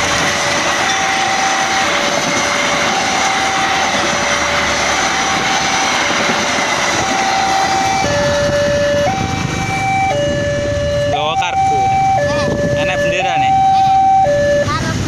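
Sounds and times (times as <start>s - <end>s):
train wheels on rails: 0.0s - 13.5s
two-tone level crossing alarm: 0.0s - 14.8s.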